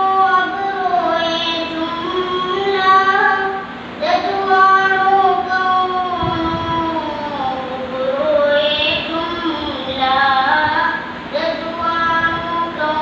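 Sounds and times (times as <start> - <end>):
boy singing unaccompanied: 0.0 - 13.0.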